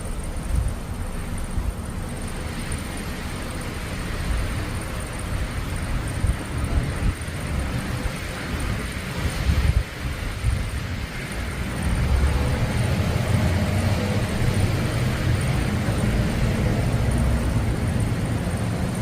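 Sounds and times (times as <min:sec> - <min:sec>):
thunder rumbling: 0:02.3 - 0:19.0.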